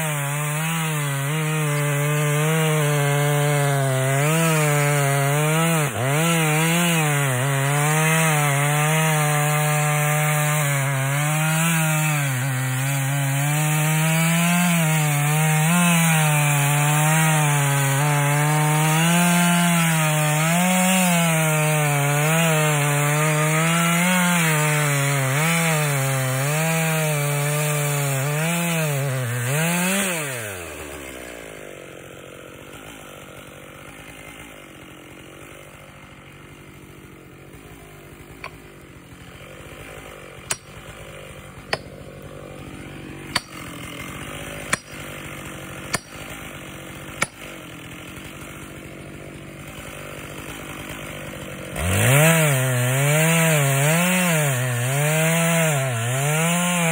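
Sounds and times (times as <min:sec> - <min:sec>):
chainsaw cutting into tree: 0:00.0 - 0:56.9.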